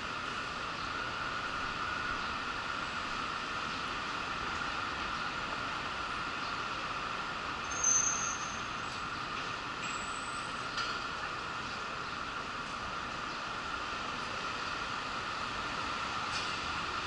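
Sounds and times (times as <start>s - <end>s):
railway station rumble: 0.0s - 17.0s.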